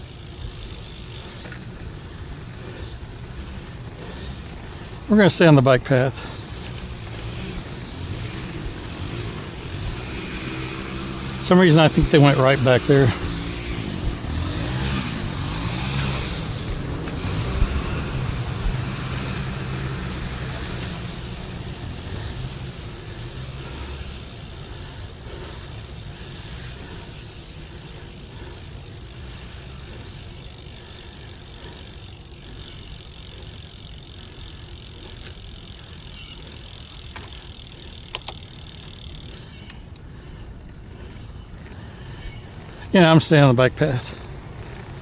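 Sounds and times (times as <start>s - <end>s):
traffic noise: 0.0s - 45.0s
vehicle passing: 0.0s - 45.0s.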